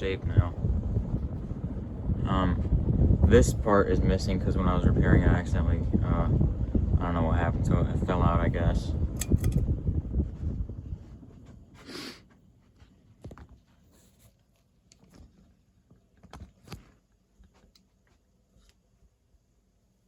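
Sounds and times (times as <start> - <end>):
ceiling fan air rumble: 0.0 - 20.0.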